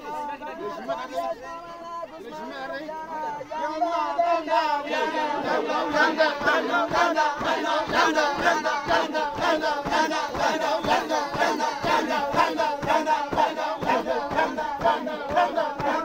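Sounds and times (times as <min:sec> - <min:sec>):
people chanting and singing: 0:00.0 - 0:16.0.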